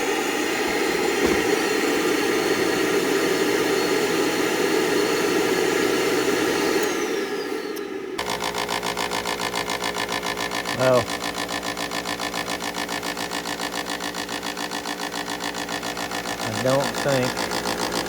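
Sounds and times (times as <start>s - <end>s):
furnace draft motor racket: 0.0s - 18.0s.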